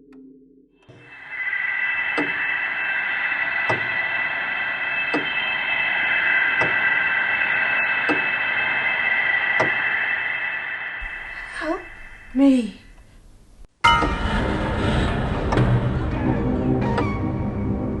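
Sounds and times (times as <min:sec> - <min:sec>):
eerie hissing drone with whining tones: 0:00.9 - 0:16.9.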